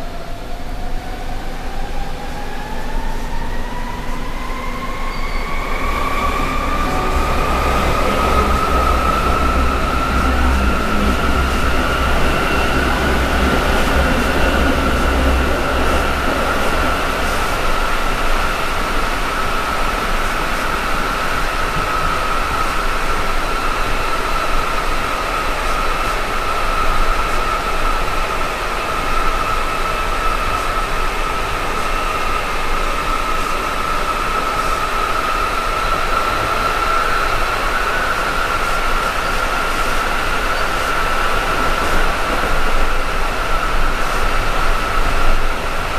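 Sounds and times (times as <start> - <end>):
train running noise: 0.0 - 45.9.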